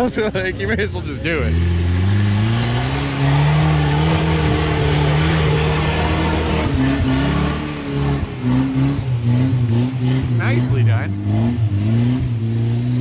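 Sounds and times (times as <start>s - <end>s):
rock crawler engine revving: 1.3s - 13.0s.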